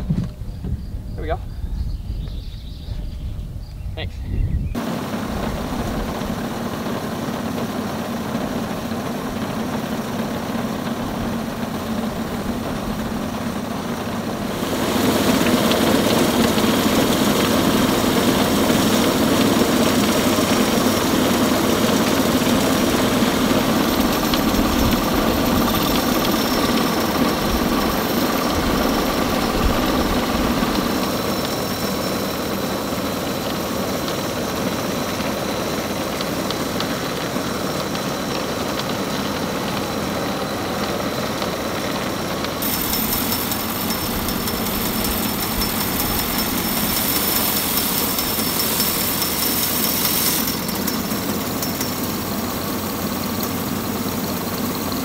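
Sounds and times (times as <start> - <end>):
bandsaw sawmill cutting log: 4.8 - 55.0.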